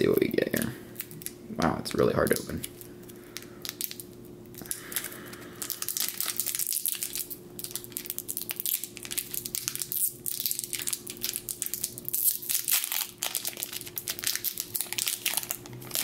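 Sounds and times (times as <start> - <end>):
foil wrapper crinkling: 2.2 - 16.0.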